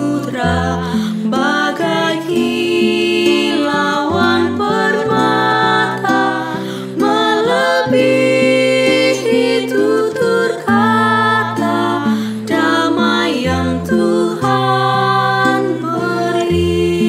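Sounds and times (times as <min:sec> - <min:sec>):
acoustic guitar: 0:00.0 - 0:17.0
group singing a hymn in harmony: 0:00.0 - 0:17.0.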